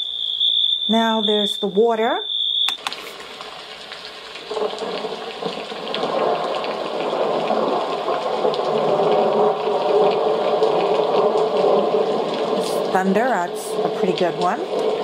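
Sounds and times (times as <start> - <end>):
recorded water rushing hiss: 1.0 - 15.0.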